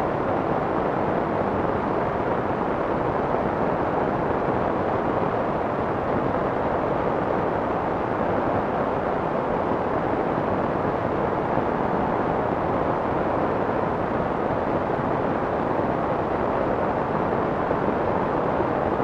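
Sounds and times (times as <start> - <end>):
soft muffled white noise: 0.0 - 19.0.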